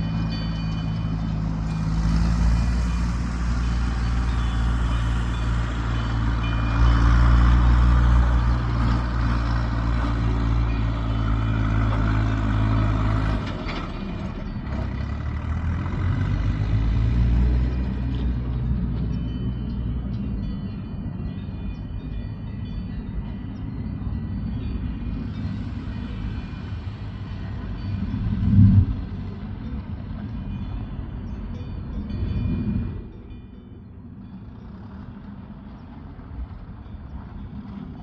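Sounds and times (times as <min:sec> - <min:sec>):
heavy vehicle engine humming: 0:00.0 - 0:38.0.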